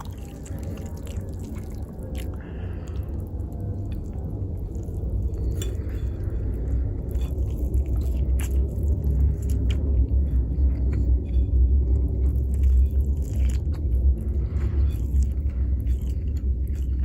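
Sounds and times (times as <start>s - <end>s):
chewing food: 0.0s - 17.0s
steady low rumble: 0.0s - 17.0s.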